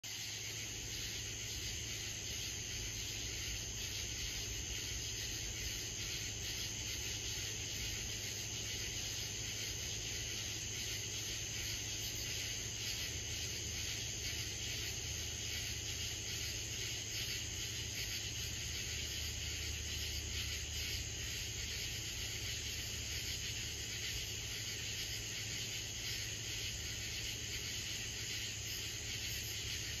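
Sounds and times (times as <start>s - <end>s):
insects trilling: 0.0s - 30.0s
rhythmic insect pulsing: 0.1s - 30.0s.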